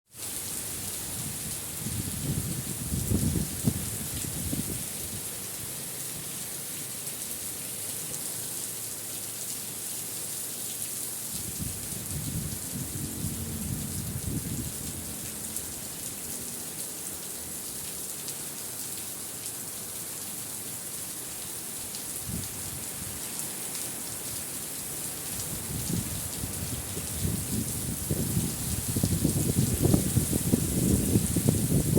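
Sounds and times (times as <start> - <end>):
heavy rain hissing: 0.1 - 31.9.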